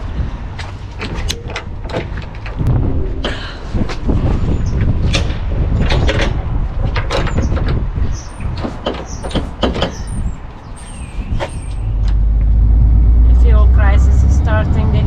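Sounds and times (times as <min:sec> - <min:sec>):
diesel engine starting and running: 0:00.0 - 0:15.0.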